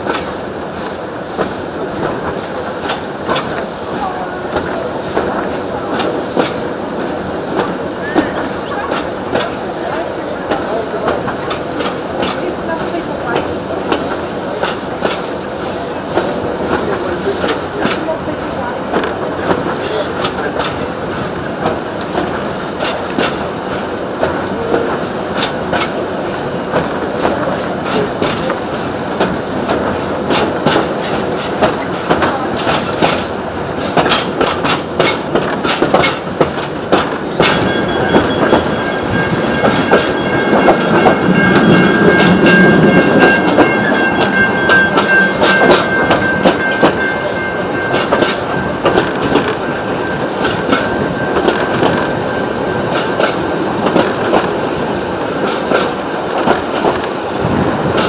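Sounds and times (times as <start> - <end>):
train carriages rumbling: 0.0 - 58.0
wheels clicking over rail joints: 0.0 - 58.0.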